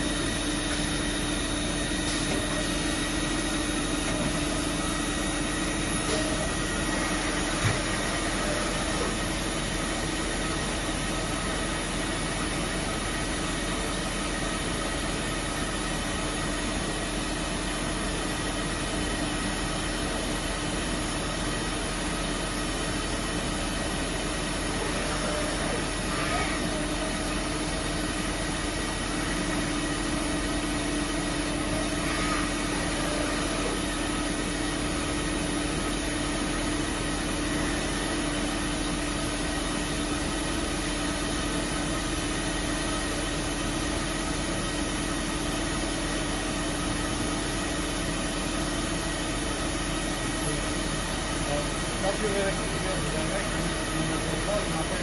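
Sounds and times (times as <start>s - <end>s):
grinder machine running: 0.0s - 55.0s.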